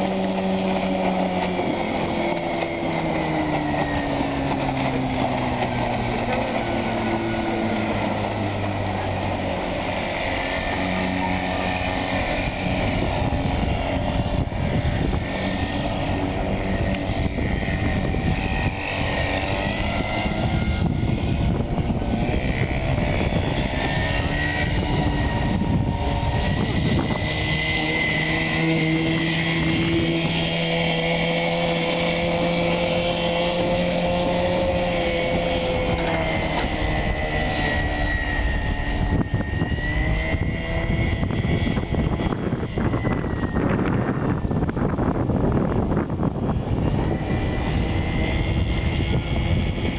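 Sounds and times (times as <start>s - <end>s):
boat motor running: 0.0s - 49.9s.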